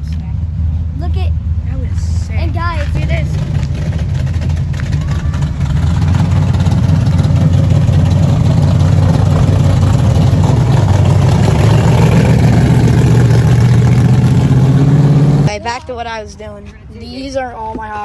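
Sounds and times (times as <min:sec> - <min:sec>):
car engine running loud and low: 0:00.0 - 0:15.6.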